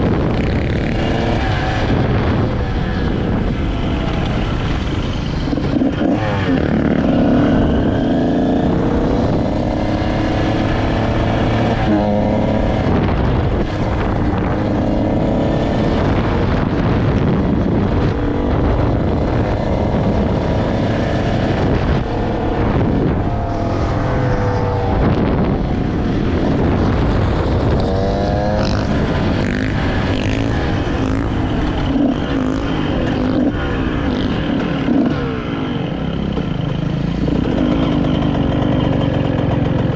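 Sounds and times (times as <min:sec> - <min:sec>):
two-stroke engine accelerating: 0:00.0 - 0:39.9.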